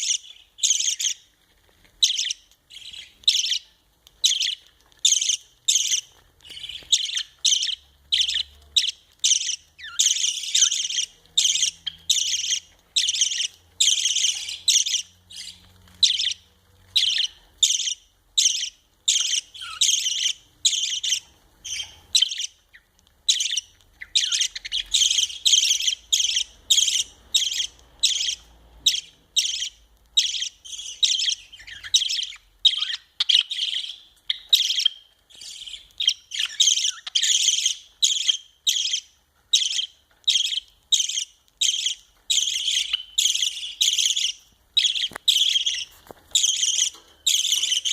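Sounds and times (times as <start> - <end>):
budgerigars chirping: 0.0 - 1.3, 2.0 - 47.9.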